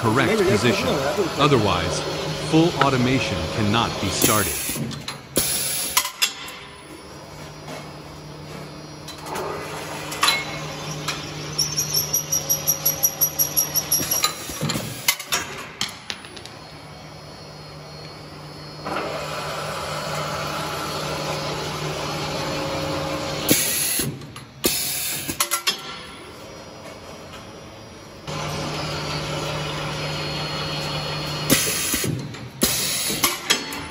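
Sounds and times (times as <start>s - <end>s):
machine humming: 0.0s - 25.4s, 26.1s - 33.2s.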